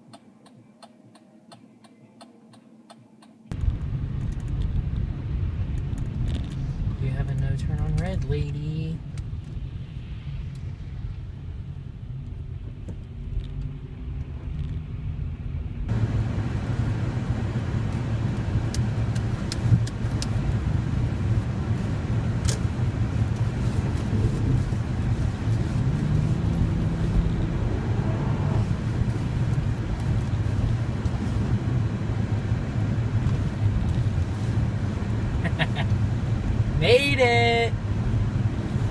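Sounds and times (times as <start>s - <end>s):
car engine and road rumble: 3.5s - 38.9s.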